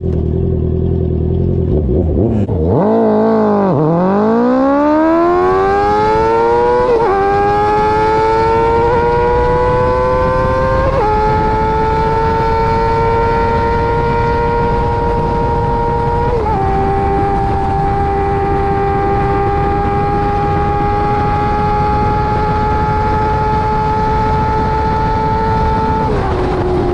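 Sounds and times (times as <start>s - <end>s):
motorcycle engine at full throttle: 0.0s - 26.9s.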